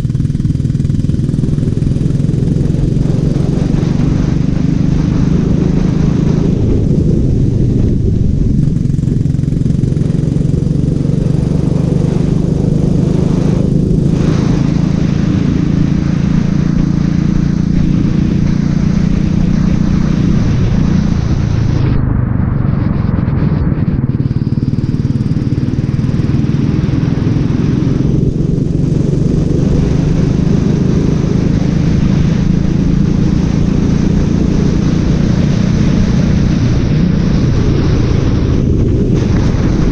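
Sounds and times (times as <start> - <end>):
racing kart engine running: 0.0 - 39.9.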